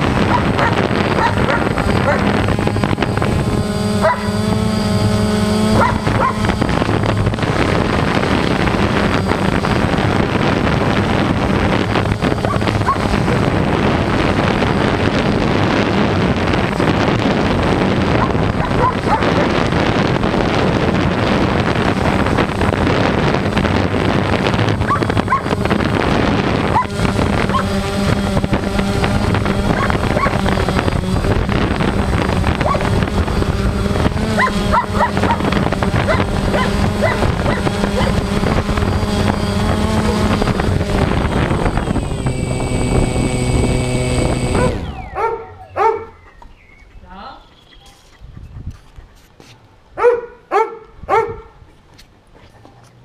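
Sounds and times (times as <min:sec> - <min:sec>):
drone motors and propellers: 0:00.0 - 0:49.6
wind on microphone: 0:00.0 - 0:52.5.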